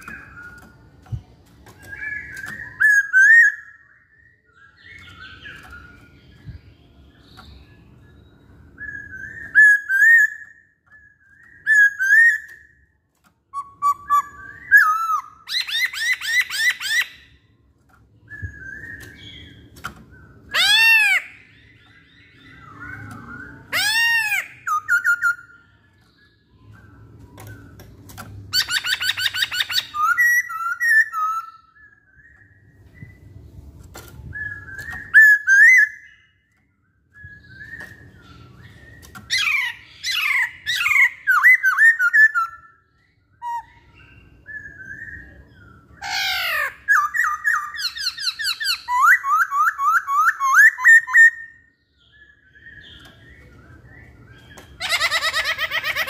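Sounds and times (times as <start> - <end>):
bird singing whistled phrases: 1.7 - 6.6, 7.2 - 12.8, 18.2 - 27.8, 28.5 - 33.3, 34.2 - 55.8.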